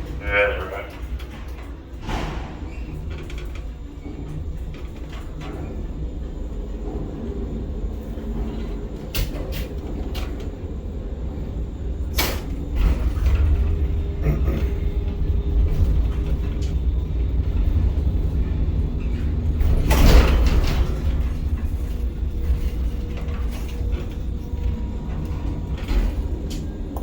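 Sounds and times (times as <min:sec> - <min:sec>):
crane machinery rumbling: 0:00.0 - 0:27.0.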